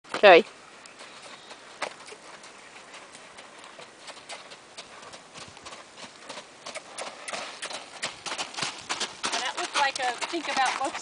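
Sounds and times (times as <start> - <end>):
horse hoofbeats on sand: 0.1 - 11.0.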